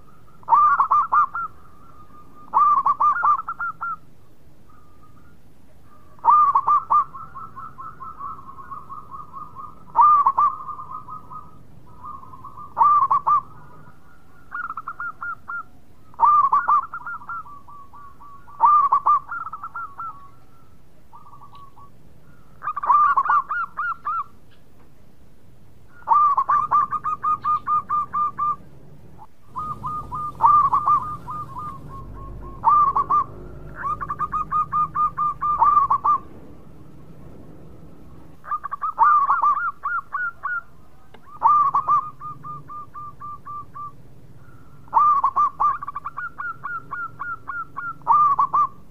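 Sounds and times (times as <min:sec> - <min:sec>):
dove cooing: 0:00.0 - 0:04.1, 0:04.7 - 0:24.4, 0:25.9 - 0:48.9.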